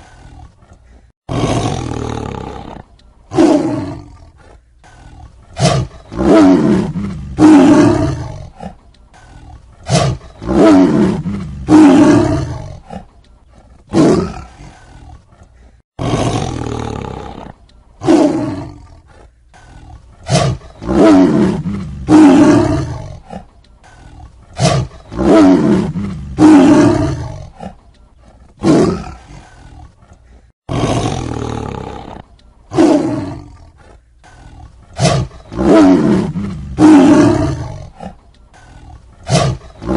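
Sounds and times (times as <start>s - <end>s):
tiger roaring and snarling: 0.0s - 39.9s.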